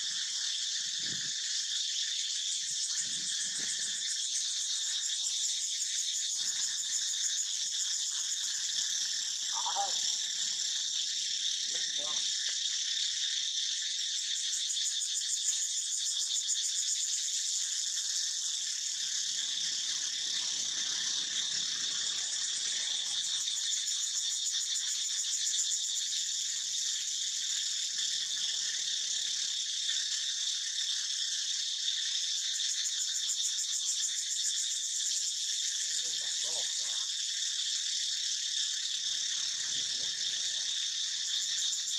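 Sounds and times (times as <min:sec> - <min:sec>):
insects buzzing: 0:00.0 - 0:41.9.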